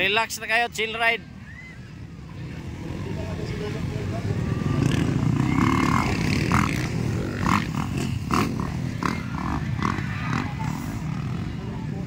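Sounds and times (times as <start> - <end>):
dirt bike engines rumbling: 0.0 - 12.0.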